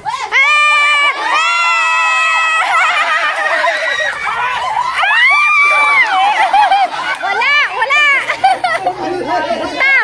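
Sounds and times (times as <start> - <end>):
women and girls screaming: 0.0 - 8.3.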